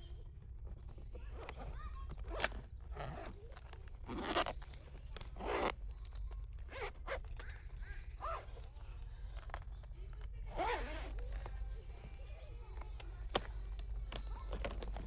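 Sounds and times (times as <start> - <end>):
rasping scrapes and rustles: 0.0 - 15.0.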